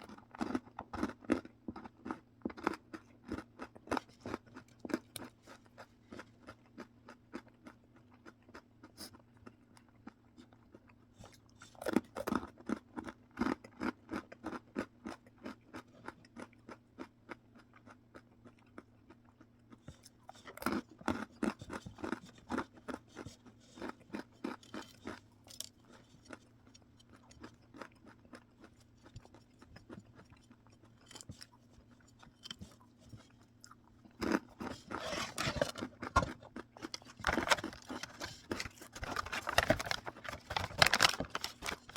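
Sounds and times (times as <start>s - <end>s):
chewing crunchy snack: 0.0s - 41.9s.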